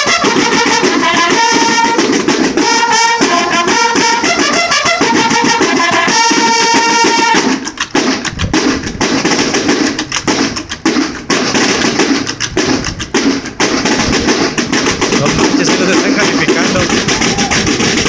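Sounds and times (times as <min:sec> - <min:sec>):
bugles playing melody: 0:00.0 - 0:18.0
snare drums march cadence: 0:00.0 - 0:18.0.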